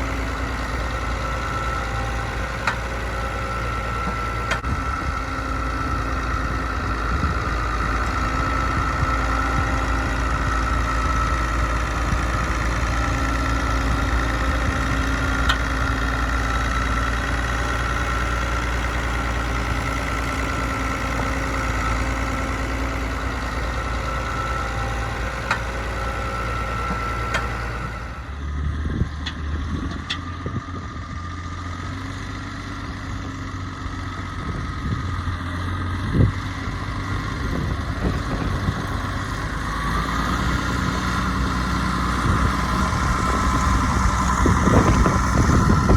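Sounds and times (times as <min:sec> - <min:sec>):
engine whine: 0:00.0 - 0:45.9
tractor diesel engine running: 0:00.0 - 0:45.9.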